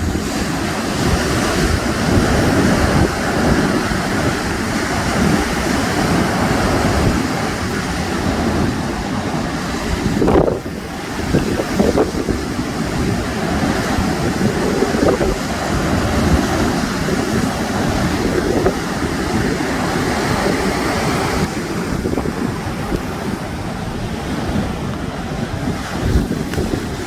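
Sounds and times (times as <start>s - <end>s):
sea surf washing on shore: 0.0s - 27.0s
wind buffeting microphone: 0.0s - 27.0s.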